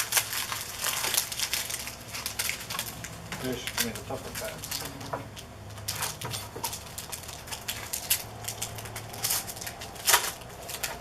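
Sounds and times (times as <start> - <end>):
card packs tearing and crinkling: 0.0 - 11.0.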